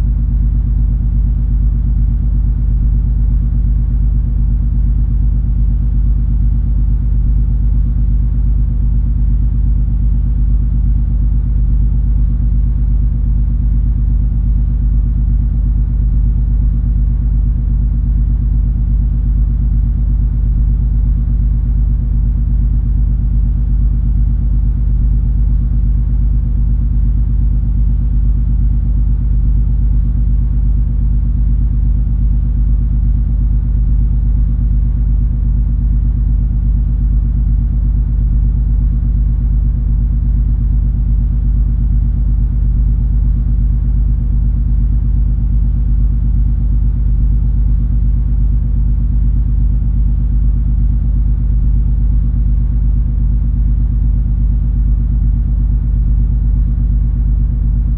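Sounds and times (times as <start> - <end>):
constant low hum: 0.0 - 57.9.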